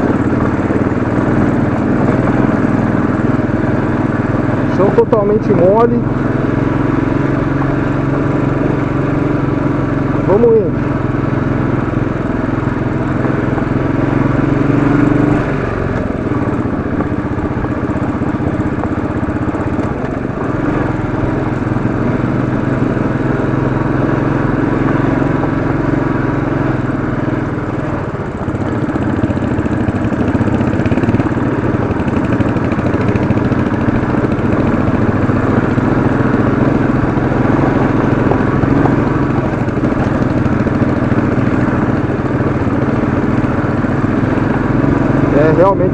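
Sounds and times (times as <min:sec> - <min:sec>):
motorcycle engine under load: 0:00.0 - 0:45.9.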